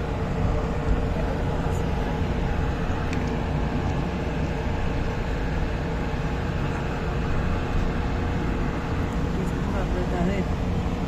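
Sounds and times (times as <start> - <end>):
light rail train rumbling: 0.0 - 11.0
train hum: 0.0 - 11.0.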